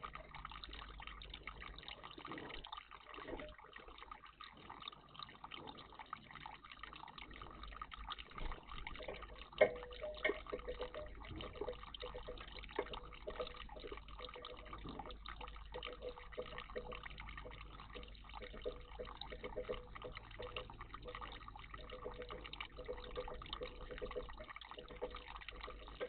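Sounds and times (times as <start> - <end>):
small splashes and clicks: 0.0 - 26.0
water trickling and dripping: 0.0 - 26.0.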